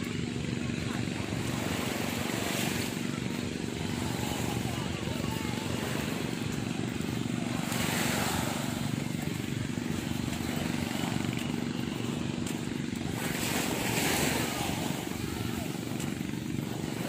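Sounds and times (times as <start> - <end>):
steady engine drone: 0.0 - 17.0.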